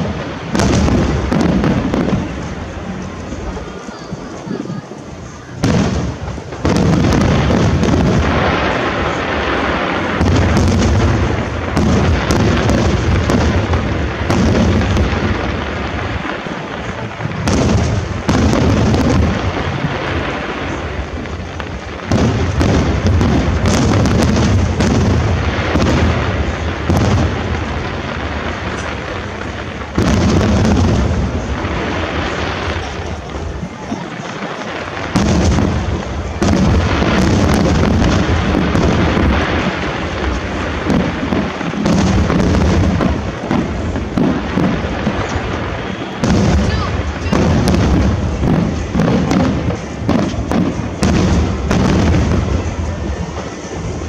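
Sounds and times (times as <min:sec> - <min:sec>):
firework crackling: 0:00.0 - 0:54.0
firework shells booming: 0:00.0 - 0:54.0.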